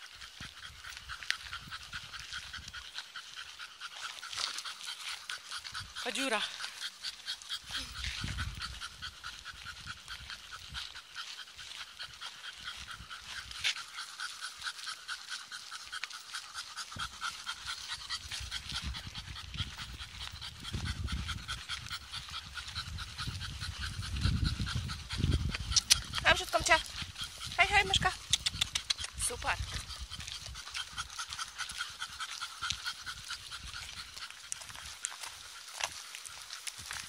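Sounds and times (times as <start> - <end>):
dogs panting rapidly: 0.0 - 37.0.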